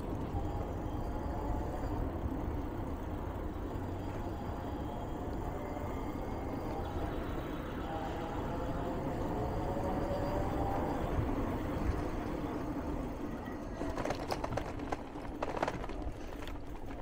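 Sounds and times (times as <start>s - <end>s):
electric motor whine: 0.0s - 14.1s
wind and road rumble: 0.0s - 17.0s.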